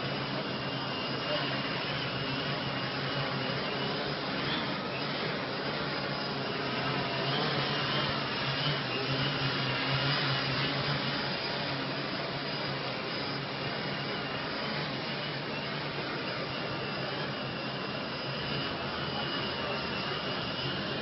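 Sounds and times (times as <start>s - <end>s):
quadcopter propellers whirring: 0.0s - 21.0s.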